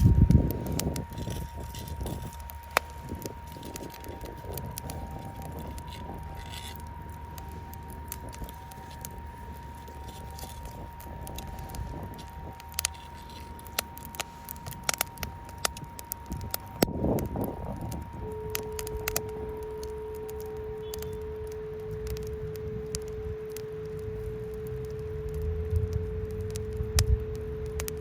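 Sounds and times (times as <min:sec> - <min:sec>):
campfire crackling and popping: 0:00.0 - 0:28.0
faint sine tone: 0:00.0 - 0:28.0
low steady rush: 0:00.0 - 0:28.0.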